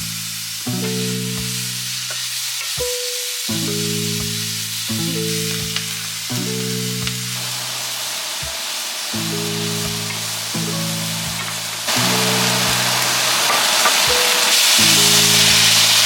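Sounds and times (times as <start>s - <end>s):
background music of held chords: 0.0s - 16.0s
noodles sizzling in a hot pan: 0.0s - 16.0s.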